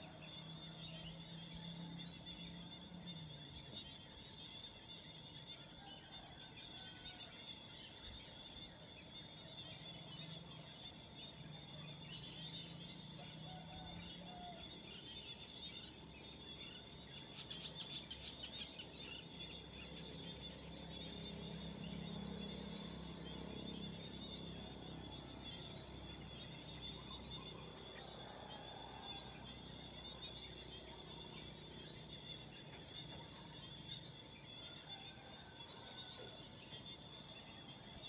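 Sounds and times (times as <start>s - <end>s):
birds calling and chirping: 0.0s - 38.0s
steady high-pitched whine: 0.0s - 38.0s.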